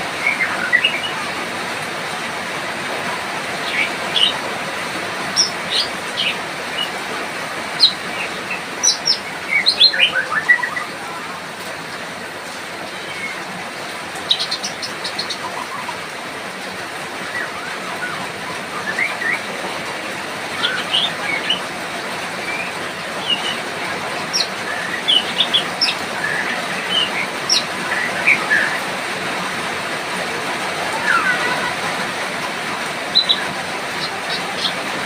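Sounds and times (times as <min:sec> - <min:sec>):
rain hiss: 0:00.0 - 0:35.0.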